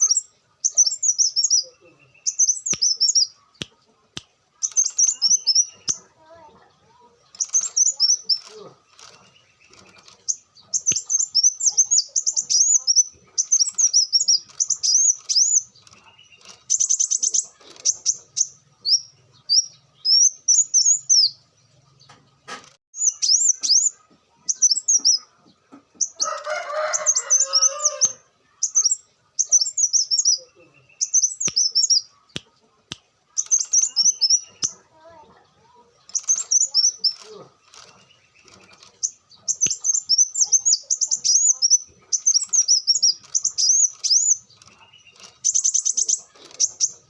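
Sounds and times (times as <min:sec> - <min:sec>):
sunbird twittering song: 0:00.0 - 0:03.7, 0:04.6 - 0:22.2, 0:23.0 - 0:32.4, 0:33.3 - 0:47.0.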